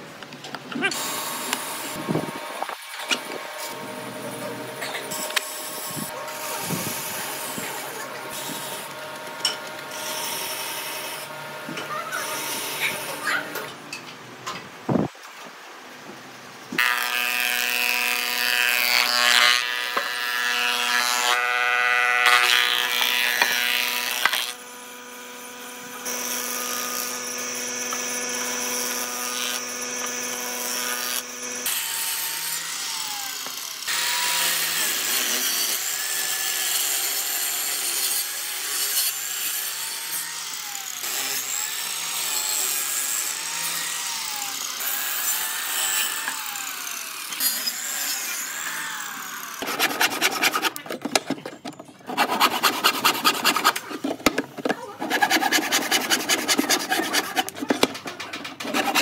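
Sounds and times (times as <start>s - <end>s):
planer cutting boards: 0.7s - 13.7s, 16.8s - 59.0s
power tool cutting wood: 0.8s - 13.6s, 16.7s - 51.4s, 52.0s - 59.0s.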